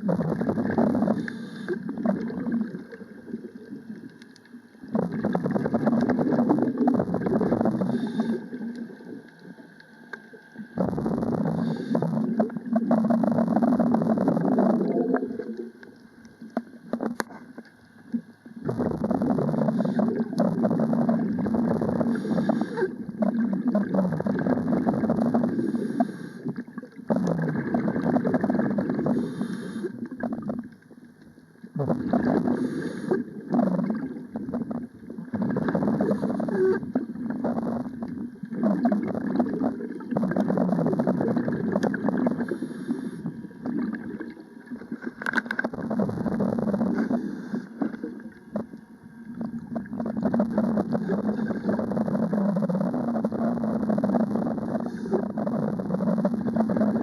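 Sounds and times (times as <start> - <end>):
diver exhaling bubbles underwater: 0.0 - 9.6, 10.6 - 17.5, 18.1 - 30.7, 31.7 - 57.0.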